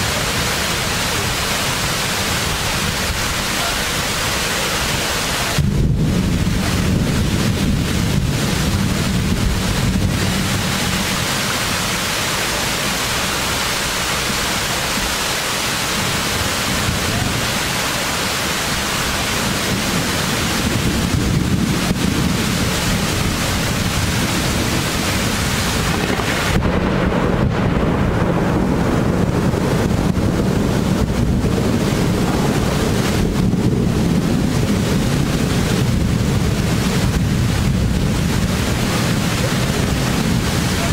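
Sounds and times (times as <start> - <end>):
heavy rain: 0.0 - 40.9
wind rumbling on microphone: 0.0 - 40.9.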